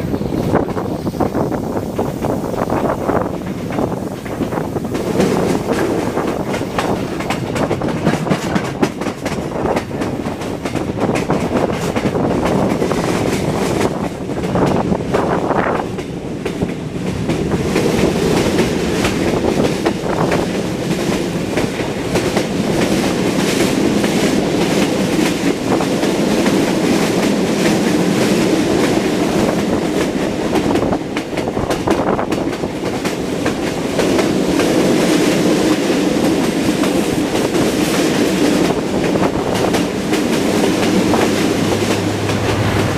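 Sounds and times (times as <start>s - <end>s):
train wheels clacking on rails: 0.0s - 42.9s.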